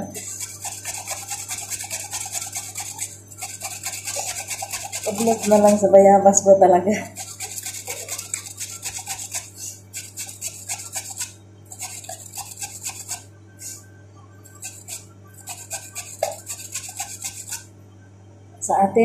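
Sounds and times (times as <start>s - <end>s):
steady low hum: 0.0s - 19.0s
carrot grated on metal grater: 0.2s - 5.9s, 7.0s - 13.8s, 14.5s - 17.7s.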